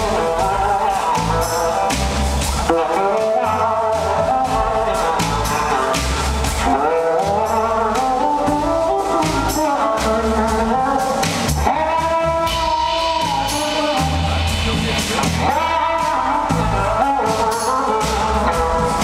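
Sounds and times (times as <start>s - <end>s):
electric slide guitar: 0.0s - 19.0s
live blues-rock band playing: 0.0s - 19.0s.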